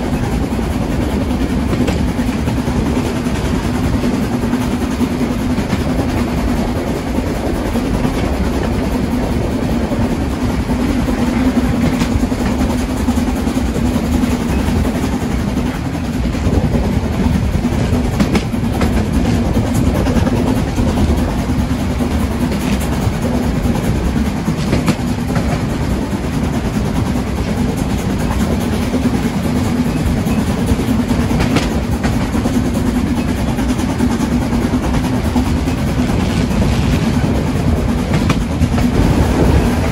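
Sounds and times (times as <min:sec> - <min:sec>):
train rumbling on track: 0:00.0 - 0:39.9
wheels clicking over rail joints: 0:00.0 - 0:39.9.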